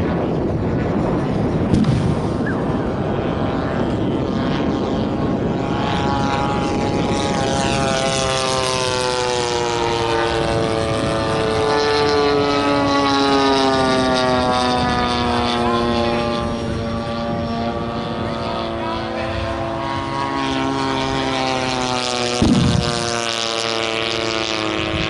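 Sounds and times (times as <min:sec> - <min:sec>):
model plane engine droning: 0:00.0 - 0:25.0.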